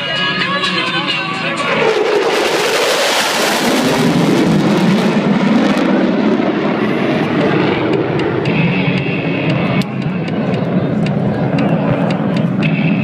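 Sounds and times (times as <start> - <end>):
jet noise overhead: 0.0 - 13.0.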